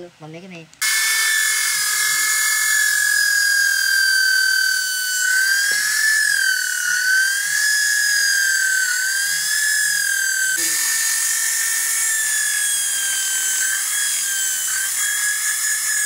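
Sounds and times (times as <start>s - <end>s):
electric drill boring into wood: 0.8s - 16.0s.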